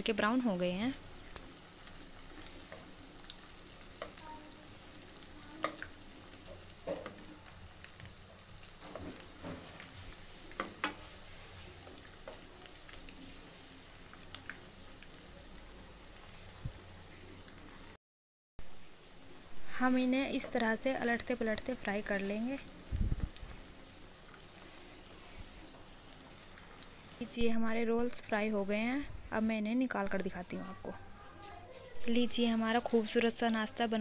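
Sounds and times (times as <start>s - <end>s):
oil sizzling: 0.0s - 18.0s, 18.6s - 34.0s.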